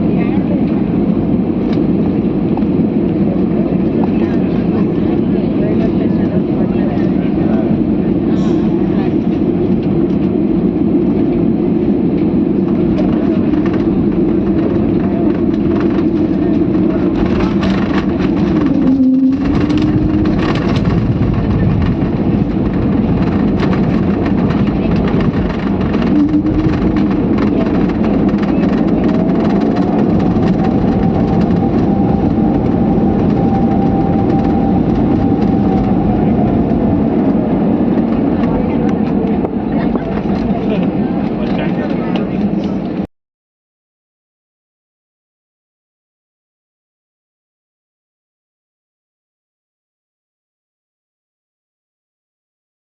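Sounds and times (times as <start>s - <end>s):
faint voices: 0.0s - 43.1s
moving vehicle rumble: 0.0s - 43.1s.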